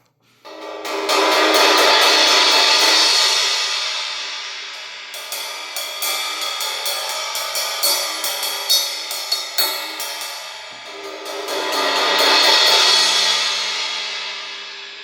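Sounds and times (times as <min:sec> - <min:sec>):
crash cymbal played: 0:00.4 - 0:15.0.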